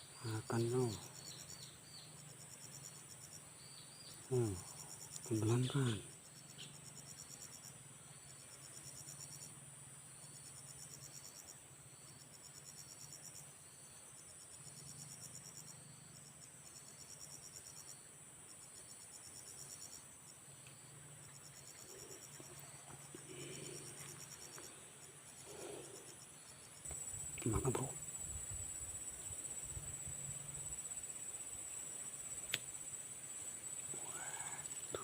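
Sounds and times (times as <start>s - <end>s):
insect trills: 0.0s - 35.0s
steady high-pitched hiss: 0.0s - 35.0s.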